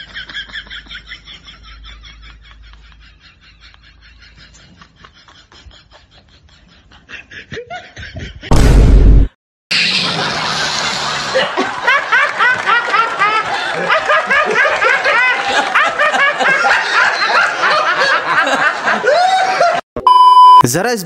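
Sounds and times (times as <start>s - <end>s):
woman laughing hard: 0.0s - 8.5s, 10.5s - 19.8s.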